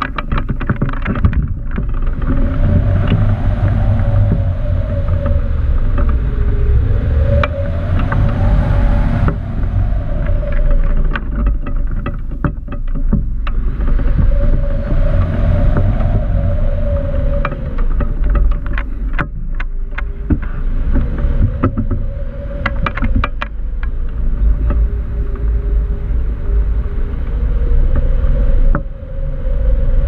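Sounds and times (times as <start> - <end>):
crackling rattles: 0.0 - 28.9
wind buffeting on microphone: 0.0 - 30.0.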